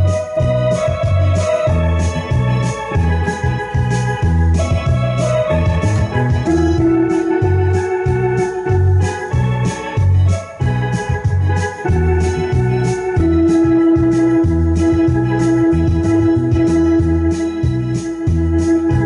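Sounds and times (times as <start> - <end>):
electronic organ playing a tune: 0.0 - 19.0.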